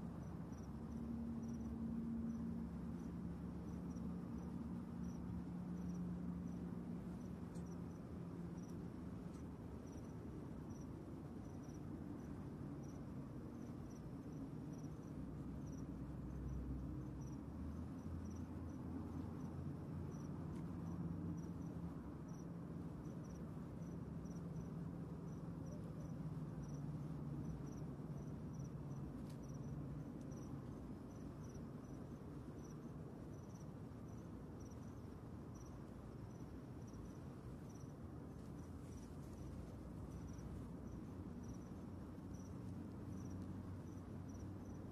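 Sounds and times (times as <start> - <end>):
crickets chirping: 0.0 - 44.9
low background rumble: 0.0 - 44.9.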